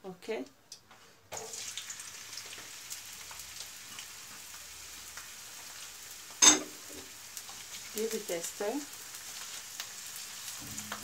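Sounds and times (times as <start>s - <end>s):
onions sizzling in oil: 1.3s - 11.0s.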